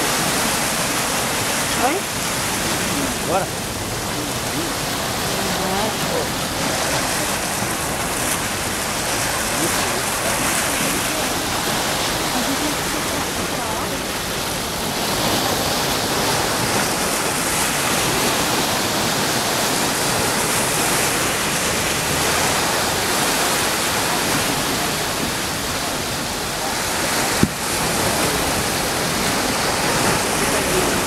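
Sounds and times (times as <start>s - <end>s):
sea surf washing in: 0.0s - 31.0s.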